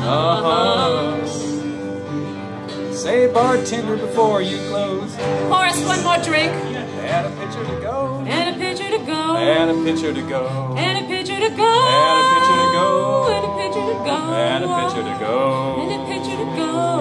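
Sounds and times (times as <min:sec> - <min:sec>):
instrumental country music: 0:00.0 - 0:17.0.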